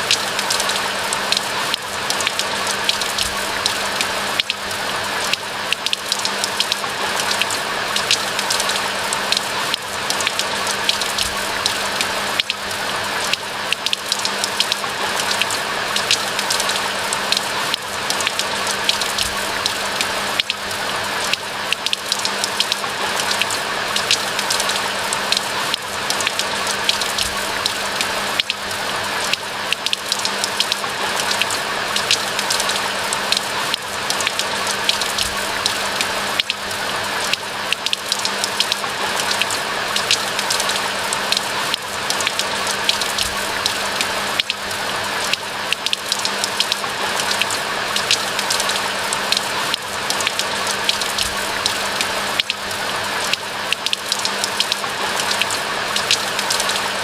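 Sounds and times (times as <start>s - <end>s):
rain falling: 0.0s - 57.0s
raindrops crackling: 0.0s - 57.0s.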